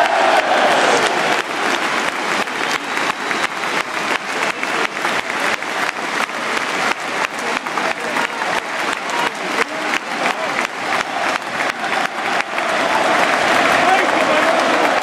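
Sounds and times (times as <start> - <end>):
close rhythmic hand claps: 0.0 - 15.0
stadium crowd applauding: 0.0 - 15.0.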